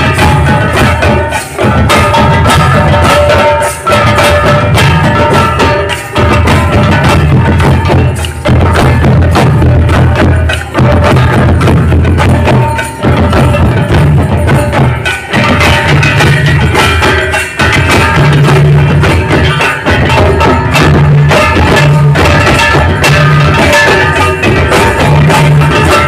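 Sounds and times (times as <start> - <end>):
barrel drum rhythm: 0.0 - 26.0
stick-beaten drum: 0.0 - 26.0.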